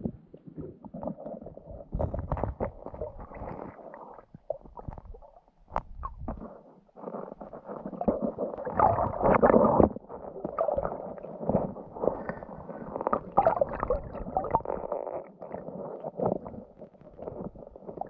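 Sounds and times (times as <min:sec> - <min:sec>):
underwater rumbling and gurgling: 0:00.0 - 0:18.0.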